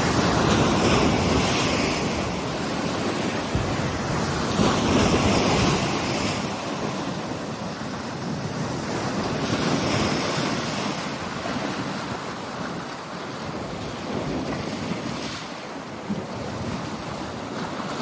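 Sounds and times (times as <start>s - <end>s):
waves breaking on beach: 0.0s - 18.0s
wind buffeting microphone: 0.0s - 18.0s.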